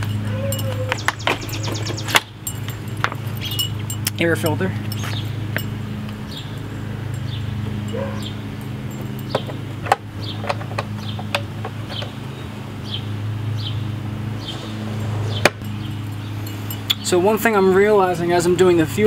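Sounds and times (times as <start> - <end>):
bird chirping: 0.0 - 17.4
steady low hum: 0.0 - 19.0.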